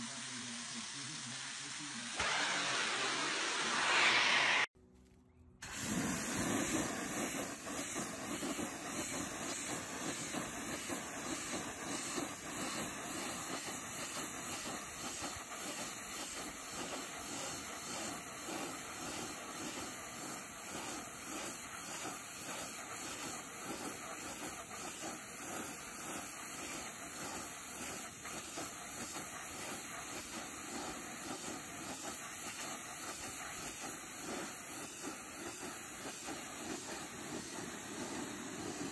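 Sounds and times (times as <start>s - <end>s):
pressure washer jet hissing: 0.0s - 4.8s, 5.6s - 38.9s.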